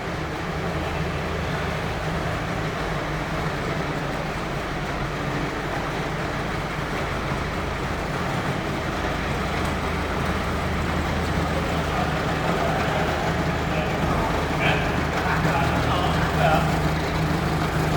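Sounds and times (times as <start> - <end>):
road noise: 0.0 - 17.9
vehicle engine running: 0.0 - 17.9.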